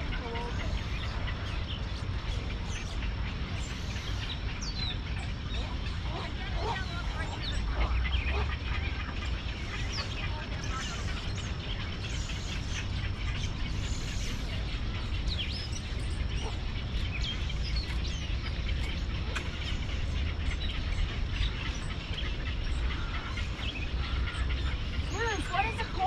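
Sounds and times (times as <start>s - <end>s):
birds chirping and squeaking: 0.0s - 26.0s
steady low rumble: 0.0s - 26.0s.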